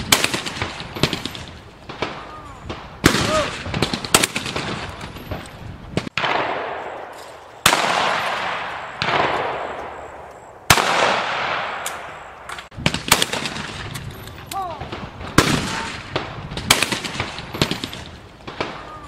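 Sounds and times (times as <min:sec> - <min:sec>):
shotgun shots with echo: 0:00.0 - 0:05.4, 0:06.0 - 0:13.9, 0:14.8 - 0:18.9.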